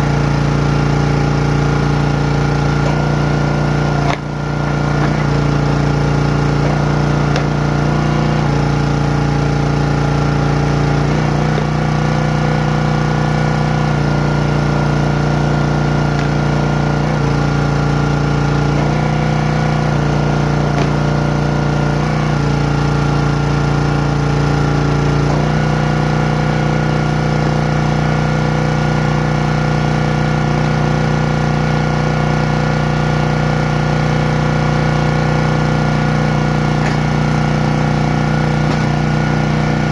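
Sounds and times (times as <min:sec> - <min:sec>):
hydraulic ram splitting wood: 0:00.0 - 0:39.9
small gas engine running: 0:00.0 - 0:39.9.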